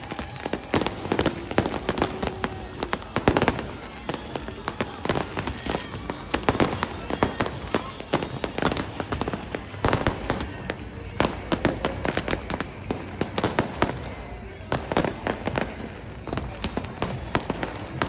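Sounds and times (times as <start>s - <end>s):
fireworks bangs and cracks: 0.0s - 18.0s.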